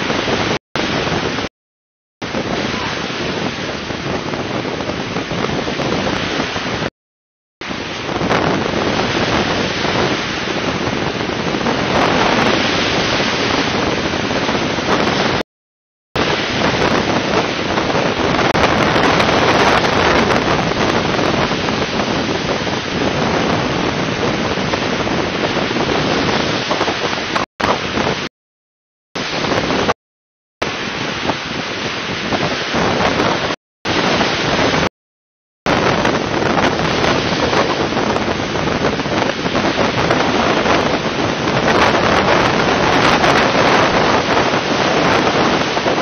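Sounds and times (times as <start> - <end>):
wind on microphone: 0.0 - 1.5, 2.2 - 6.9, 7.6 - 15.4, 16.2 - 28.3, 29.2 - 30.0, 30.6 - 34.9, 35.7 - 46.0
sea surf on pebble beach: 2.2 - 6.9, 7.6 - 15.4, 16.2 - 28.3, 29.2 - 29.9, 30.6 - 34.9, 35.7 - 46.0.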